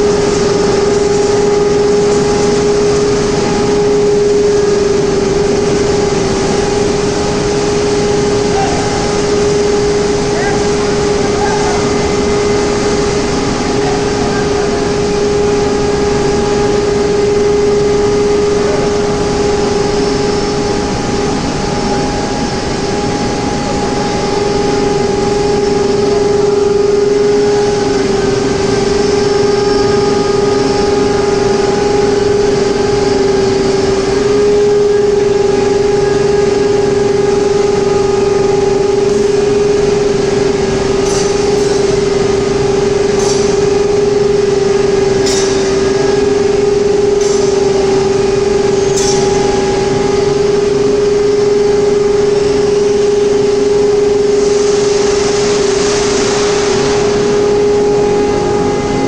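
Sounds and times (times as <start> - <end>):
furnace machinery hum: 0.0 - 59.0.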